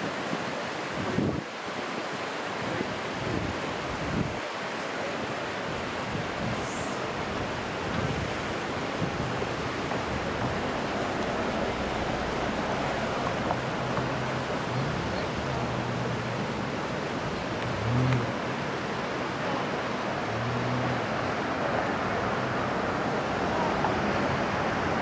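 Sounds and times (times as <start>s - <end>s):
river current rushing: 0.0s - 25.0s.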